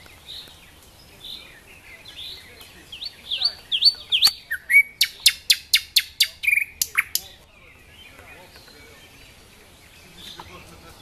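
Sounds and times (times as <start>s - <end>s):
sharp bird chips: 0.0s - 9.0s
songbird singing: 0.0s - 11.0s.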